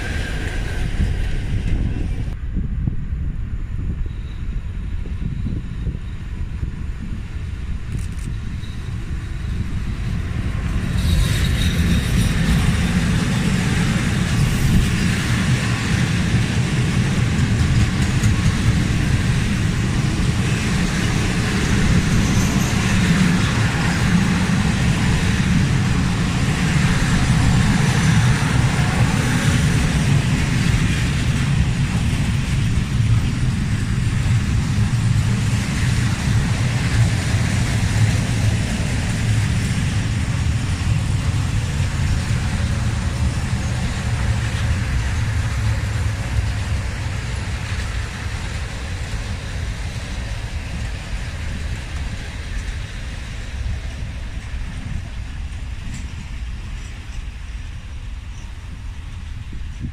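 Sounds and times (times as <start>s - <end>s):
train rumbling past with hiss: 0.0s - 59.9s.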